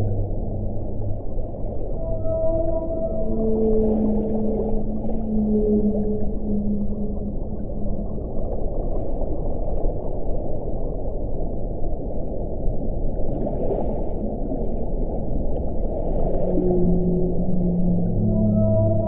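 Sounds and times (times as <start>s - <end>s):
low whale tone: 0.0s - 19.0s
underwater low rumbling: 0.0s - 19.0s.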